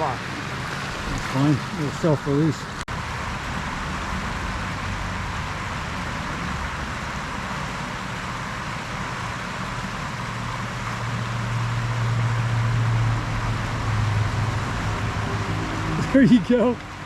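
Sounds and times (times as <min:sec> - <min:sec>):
low hum: 0:00.0 - 0:17.0
stream water rushing: 0:00.0 - 0:17.0.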